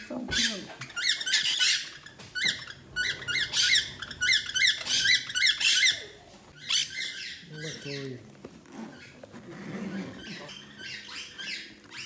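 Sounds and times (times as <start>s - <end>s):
parrots chirping and squeaking: 0.0s - 12.0s.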